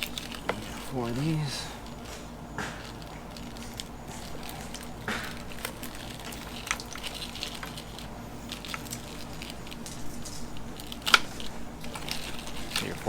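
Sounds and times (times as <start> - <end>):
steady low hum: 0.0 - 13.0
wiring rustling: 0.0 - 13.0.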